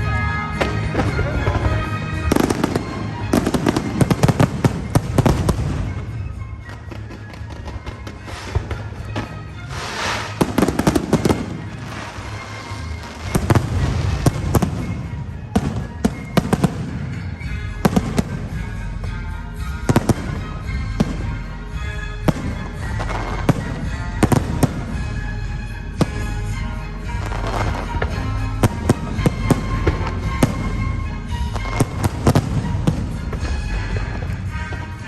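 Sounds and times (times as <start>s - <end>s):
fireworks bursting with bangs: 0.0s - 35.0s
fireworks crackling: 0.0s - 35.0s.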